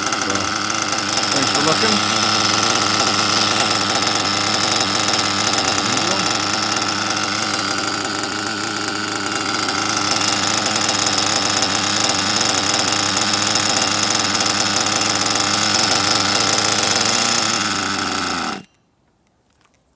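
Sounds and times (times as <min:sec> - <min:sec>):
model car engine idling: 0:00.0 - 0:18.7.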